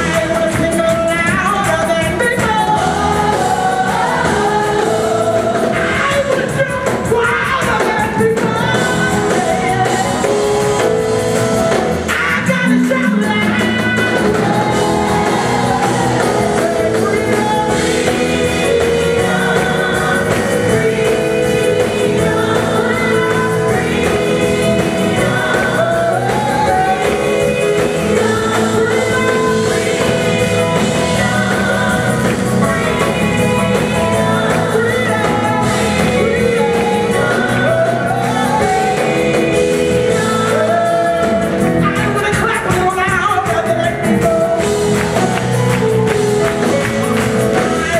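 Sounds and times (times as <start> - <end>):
group singing in harmony: 0.0 - 42.4, 43.8 - 47.9
band with drums bass and keyboards: 0.0 - 47.9.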